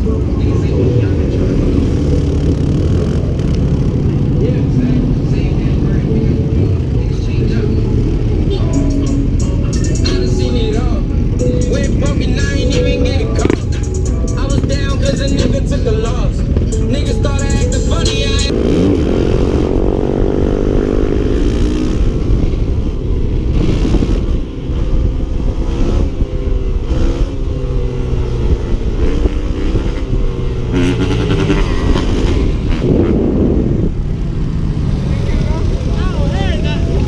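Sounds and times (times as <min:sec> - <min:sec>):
dirt bike engine revving: 0:00.7 - 0:22.8, 0:23.4 - 0:37.0.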